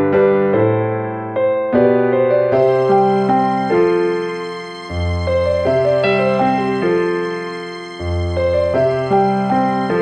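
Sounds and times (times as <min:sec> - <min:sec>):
soft electric piano music: 0:00.0 - 0:10.0.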